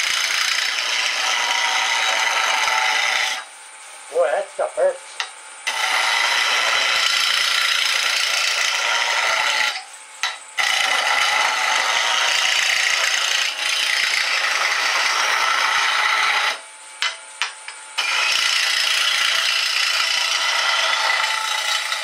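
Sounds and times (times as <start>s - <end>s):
wood lathe cutting scraping hiss: 0.0s - 22.0s.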